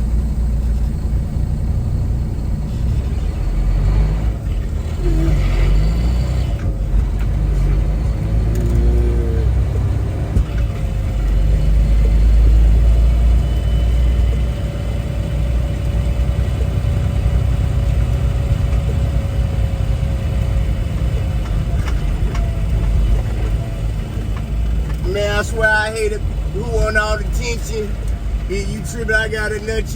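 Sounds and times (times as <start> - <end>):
truck diesel engine and road rumble: 0.0 - 29.9.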